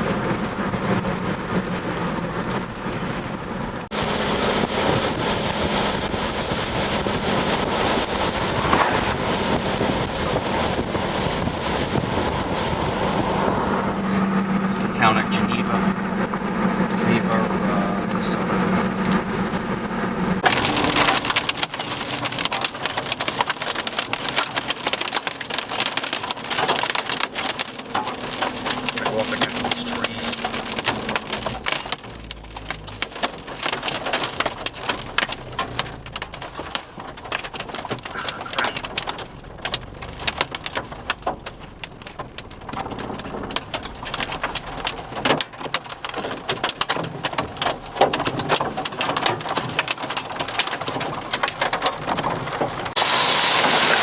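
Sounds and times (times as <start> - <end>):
heavy rain with hail clattering: 0.0 - 54.0.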